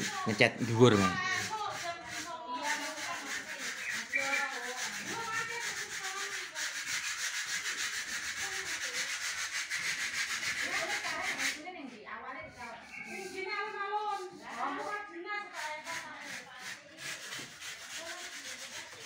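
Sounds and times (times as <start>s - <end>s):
hand rubbing plaster ceiling: 0.0s - 19.0s.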